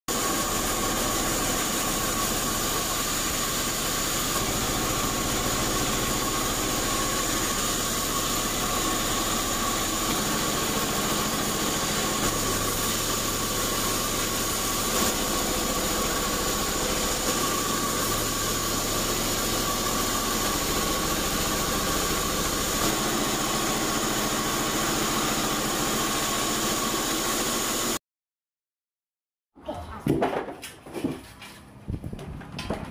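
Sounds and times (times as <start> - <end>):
band sawmill running with whine: 0.1 - 28.0.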